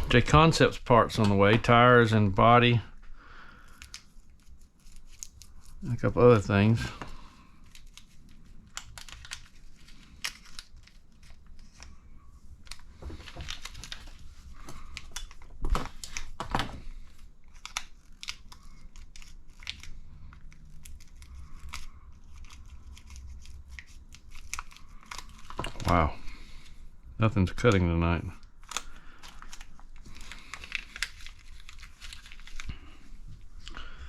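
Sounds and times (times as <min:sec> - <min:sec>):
plastic rustling: 0:00.0 - 0:26.8, 0:27.5 - 0:34.0
plastic bags crinkling: 0:03.6 - 0:26.7, 0:28.4 - 0:34.0.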